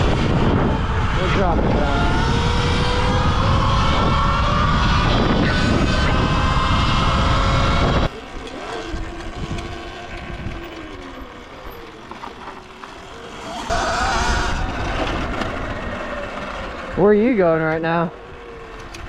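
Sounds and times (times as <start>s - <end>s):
wind buffeting microphone: 0.0s - 11.8s, 13.7s - 19.0s
electric motor whine: 0.0s - 17.2s.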